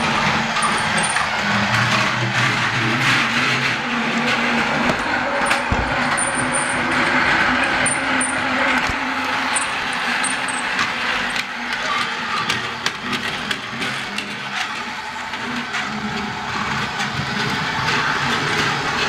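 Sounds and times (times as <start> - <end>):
clicks of train on track: 0.0 - 19.0
toy train motor whirring: 0.0 - 19.0.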